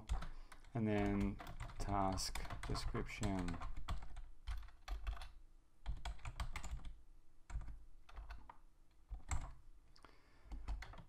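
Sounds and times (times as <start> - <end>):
typing on computer keyboard: 0.0 - 9.6, 10.4 - 11.0.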